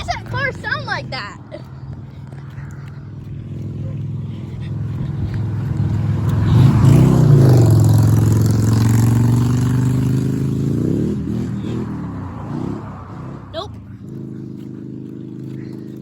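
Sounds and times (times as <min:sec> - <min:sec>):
car engine driving past: 0:02.4 - 0:15.9.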